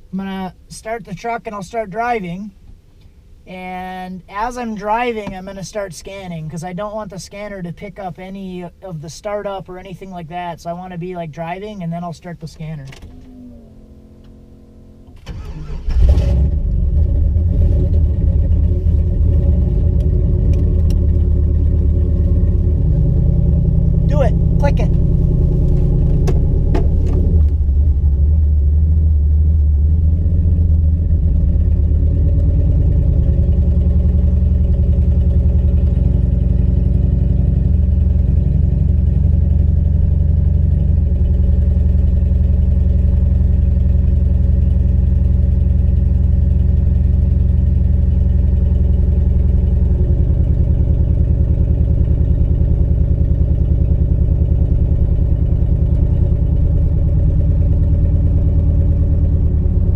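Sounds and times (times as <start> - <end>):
truck engine drone while driving: 0.0 - 59.9.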